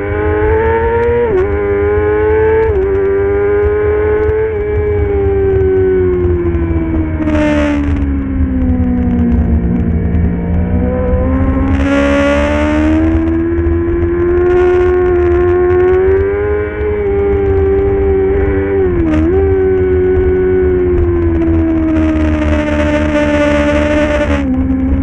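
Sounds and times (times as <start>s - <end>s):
motorcycle engine at speed: 0.0s - 25.0s.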